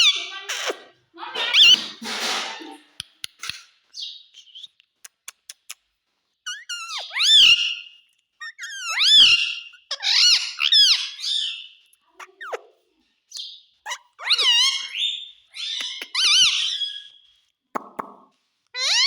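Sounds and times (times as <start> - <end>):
parrot calling: 0.0 - 4.7, 6.5 - 17.3, 18.8 - 19.0.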